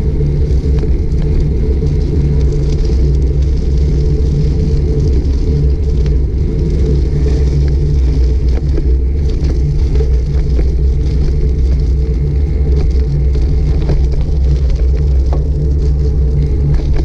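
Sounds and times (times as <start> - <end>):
wind and road rumble: 0.0 - 17.0.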